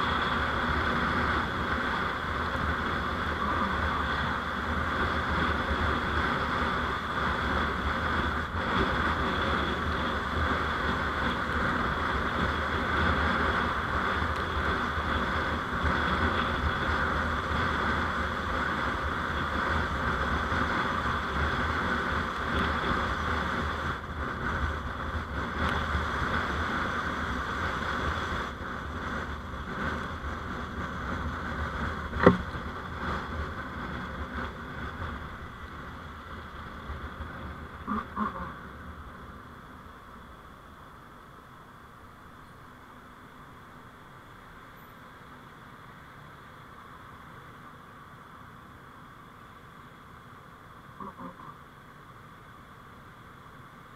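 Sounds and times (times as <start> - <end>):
vehicle road noise: 0.0 - 53.9.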